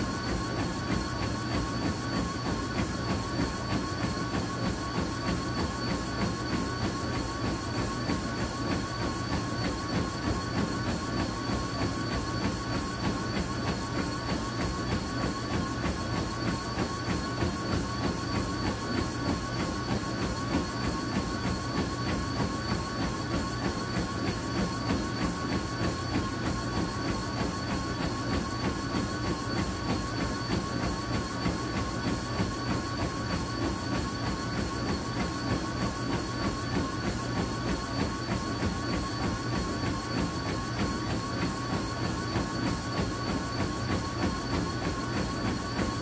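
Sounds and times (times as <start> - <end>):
footfalls on treadmill: 0.0 - 46.0
treadmill motor and belt whine: 0.0 - 46.0.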